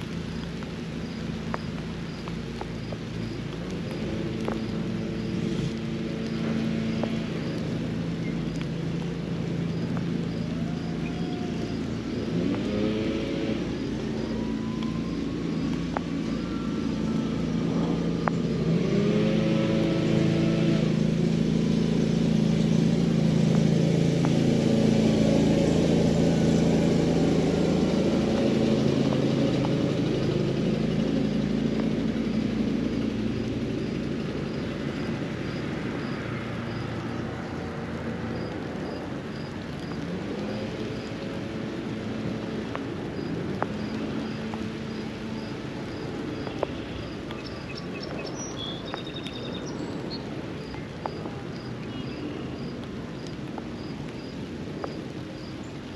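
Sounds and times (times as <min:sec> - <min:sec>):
motor engine passing: 0:00.0 - 0:55.9
rain hiss: 0:00.0 - 0:55.9.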